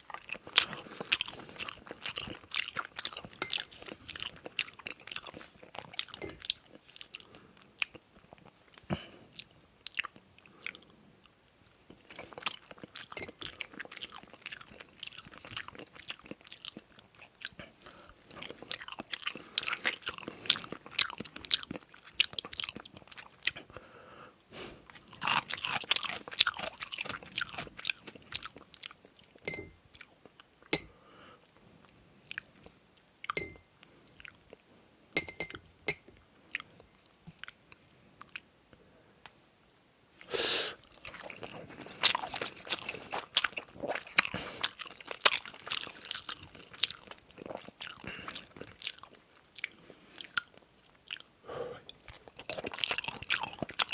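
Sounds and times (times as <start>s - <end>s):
chewing with wet mouth smacks: 0.0s - 23.8s, 24.8s - 30.5s, 31.8s - 34.6s, 36.5s - 37.6s, 40.8s - 53.9s.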